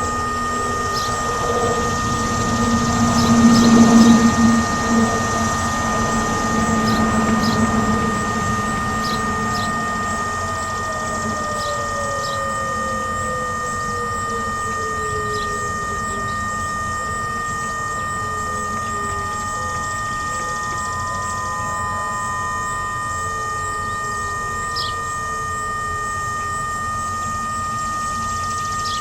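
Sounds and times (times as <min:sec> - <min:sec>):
electronic siren buzzing: 0:00.0 - 0:29.0
faint tone falling in pitch: 0:00.0 - 0:29.0.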